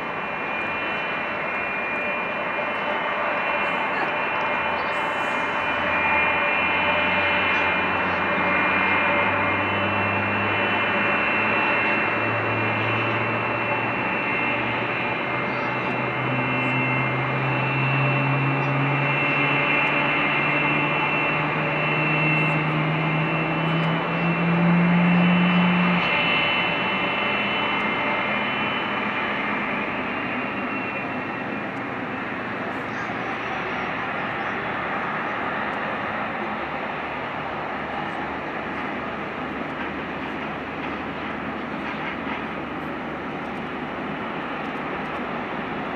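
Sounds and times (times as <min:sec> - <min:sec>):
jet engines whining: 0:00.0 - 0:45.9
low drone rising in pitch: 0:00.0 - 0:45.9.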